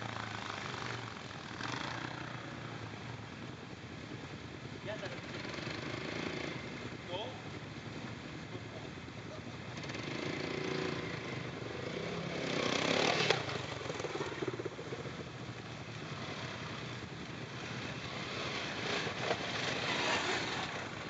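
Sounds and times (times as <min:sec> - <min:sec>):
quad bike engines revving: 0:00.0 - 0:04.1, 0:04.7 - 0:21.0.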